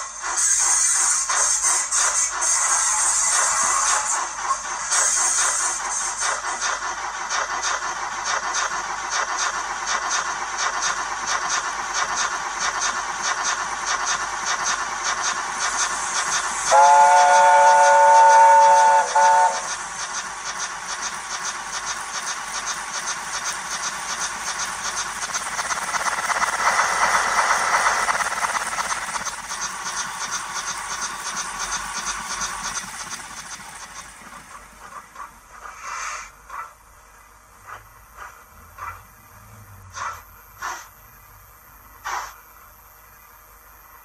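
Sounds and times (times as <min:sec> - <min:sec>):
steam engine chuffing: 0:00.0 - 0:43.0
steam hiss: 0:00.0 - 0:44.0.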